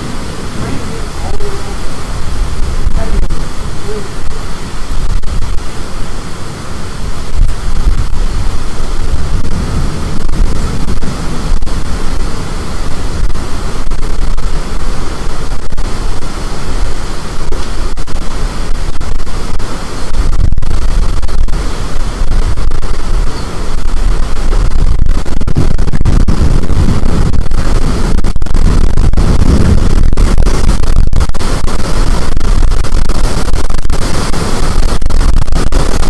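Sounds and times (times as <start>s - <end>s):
high wind on microphone: 0.0s - 36.0s.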